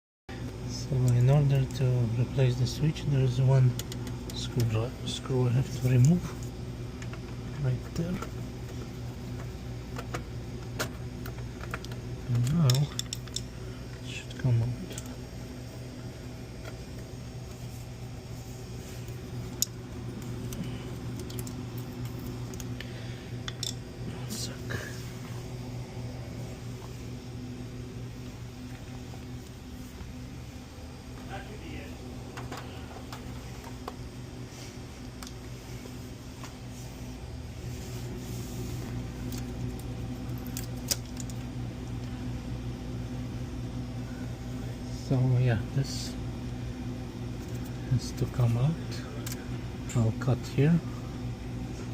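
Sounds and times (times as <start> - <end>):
freezer humming: 0.3 - 51.9.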